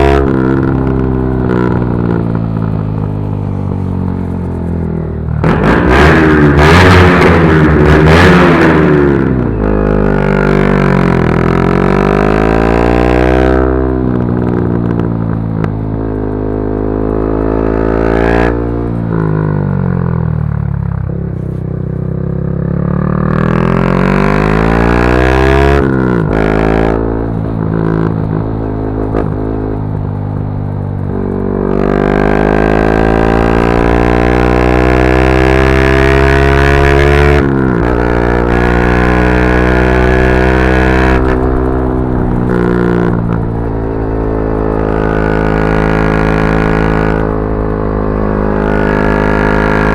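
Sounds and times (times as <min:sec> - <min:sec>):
motorcycle engine revving through gears: 0:00.0 - 0:49.9.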